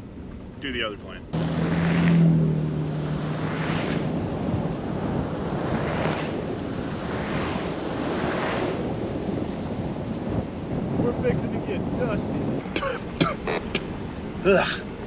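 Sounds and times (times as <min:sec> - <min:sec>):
low engine hum: 0:00.0 - 0:15.0
tyre and road noise: 0:00.0 - 0:15.0
wind: 0:00.0 - 0:15.0.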